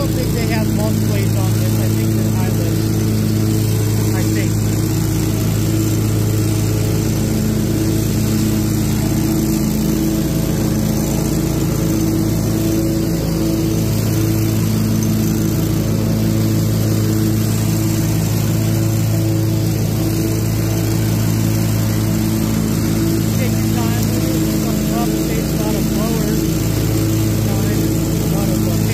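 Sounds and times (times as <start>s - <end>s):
mower engine drone: 0.0s - 28.9s.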